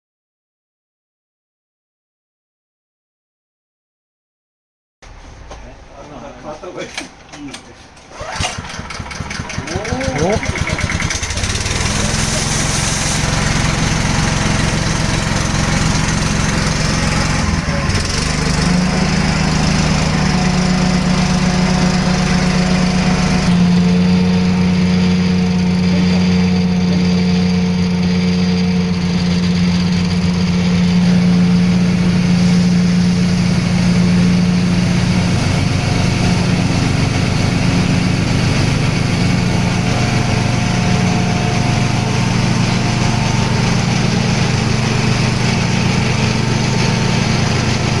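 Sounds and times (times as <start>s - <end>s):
small engine running milling machine: 8.1s - 48.0s.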